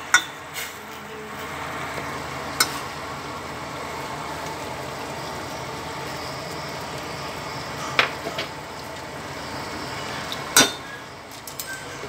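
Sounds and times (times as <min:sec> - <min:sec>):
gas stove burner hissing: 0:00.0 - 0:12.0
soup simmering: 0:01.3 - 0:11.5.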